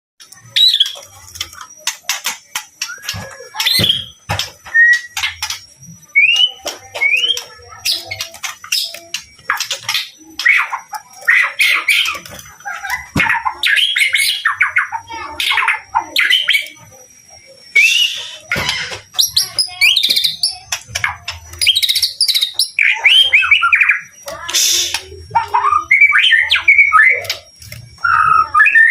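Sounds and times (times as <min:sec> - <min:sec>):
songbird singing whistles and trills: 0:02.1 - 0:28.9.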